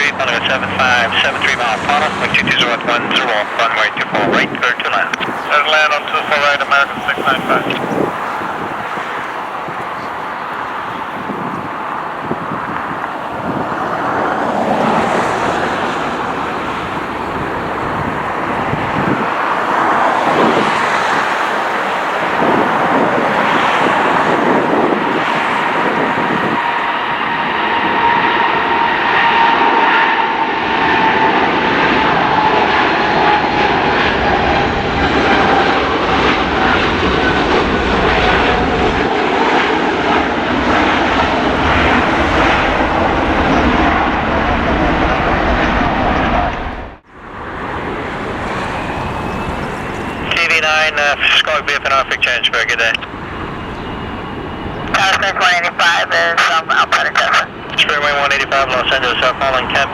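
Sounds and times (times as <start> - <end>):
jet engines roaring and whining: 0.0 - 59.9.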